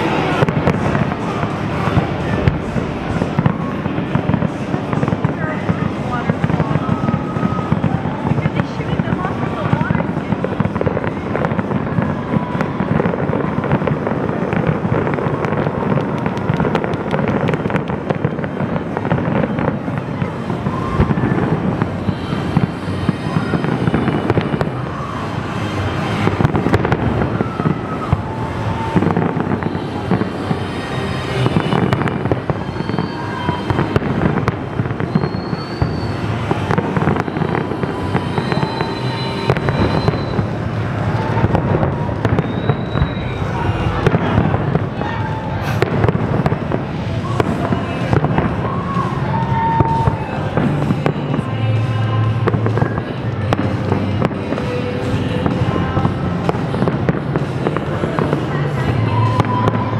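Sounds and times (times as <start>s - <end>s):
high firework whistles: 0.0s - 54.1s, 54.7s - 59.9s
fireworks bangs and crackle: 0.0s - 59.9s.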